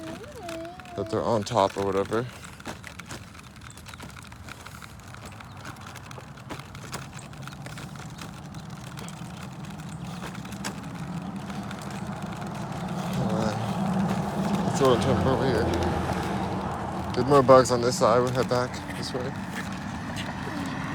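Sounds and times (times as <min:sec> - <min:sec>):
low engine hum: 0:00.0 - 0:20.9
small clicks: 0:00.0 - 0:20.9.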